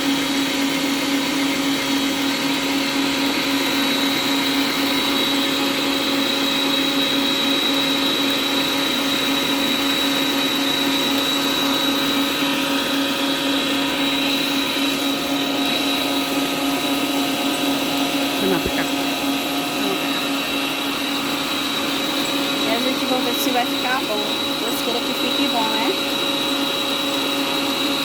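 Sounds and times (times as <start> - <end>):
kitchen mixer motor whining: 0.0 - 28.0.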